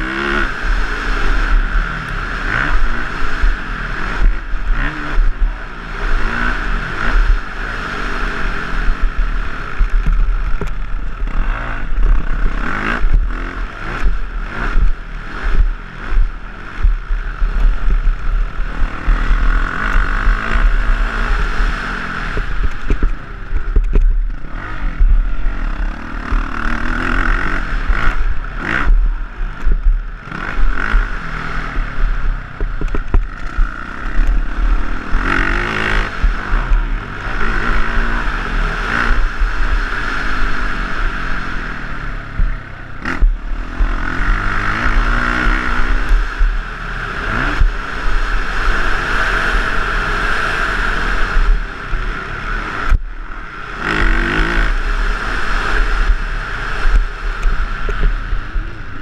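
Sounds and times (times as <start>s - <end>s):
motocross bike engine revving: 0.0s - 59.0s
wind rumble on microphone: 0.0s - 59.0s.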